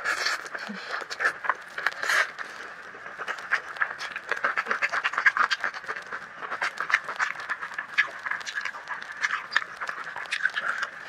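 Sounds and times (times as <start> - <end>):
person chewing noodles: 0.0 - 11.0.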